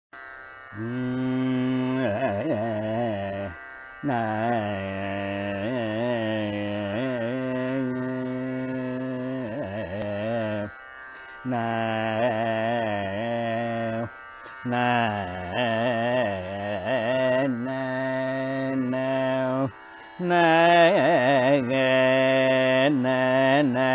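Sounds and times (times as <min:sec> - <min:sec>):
slow melodic line with gliding ornaments: 0:00.2 - 0:23.9.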